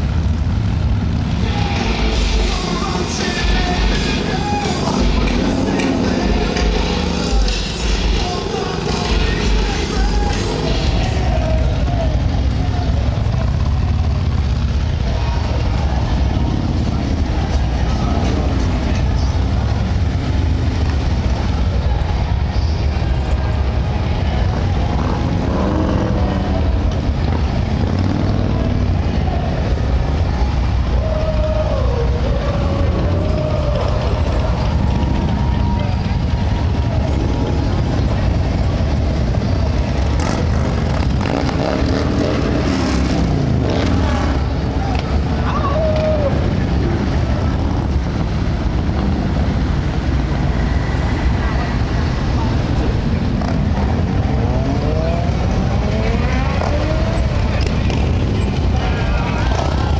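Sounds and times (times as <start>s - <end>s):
motorcycle engines droning: 0.0s - 59.9s.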